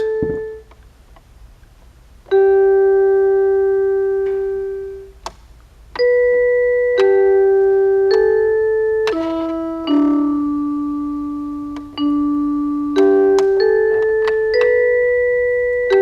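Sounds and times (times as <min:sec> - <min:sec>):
electronic bell notes: 0:00.0 - 0:00.6, 0:02.3 - 0:05.1, 0:06.0 - 0:16.0.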